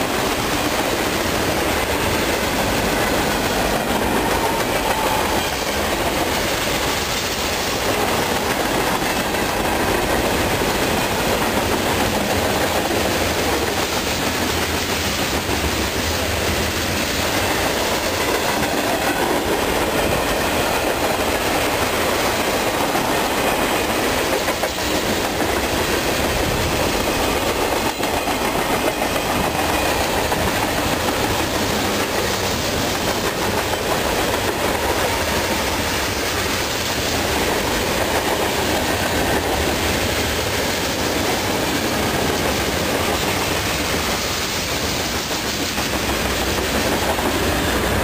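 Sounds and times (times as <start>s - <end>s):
freight train wheels on rails: 0.0s - 48.0s.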